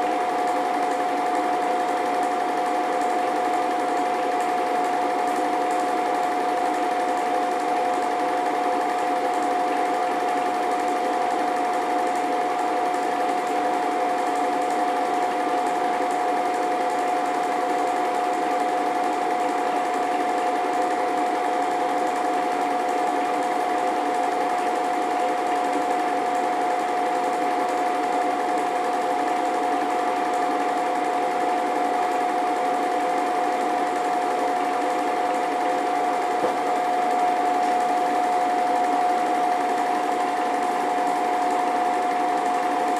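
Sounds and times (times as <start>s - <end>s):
film projector whirring: 0.0s - 42.9s.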